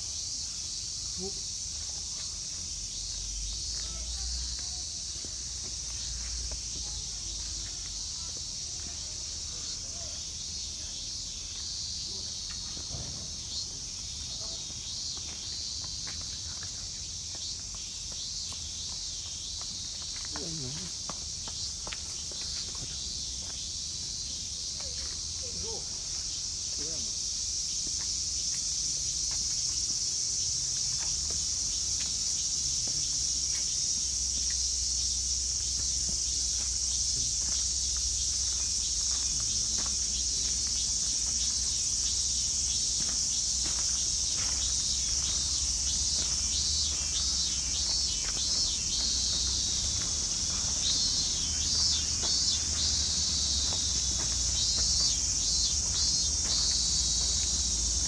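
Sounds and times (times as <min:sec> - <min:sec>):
insect pulsing chirp: 0:00.0 - 0:58.0
insects droning: 0:00.0 - 0:58.0.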